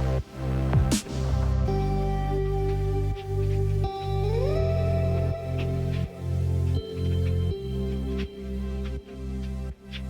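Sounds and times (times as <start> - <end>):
held low notes: 0.0 - 10.0
soft melody: 0.0 - 10.0.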